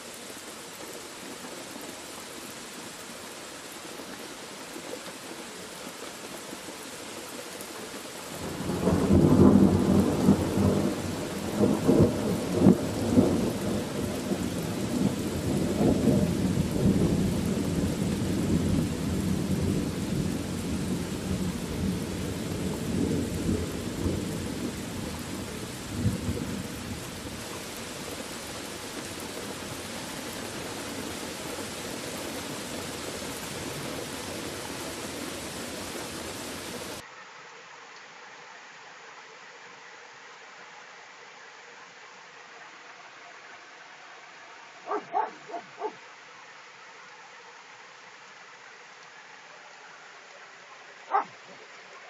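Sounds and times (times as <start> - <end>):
rain hissing: 0.0 - 52.0.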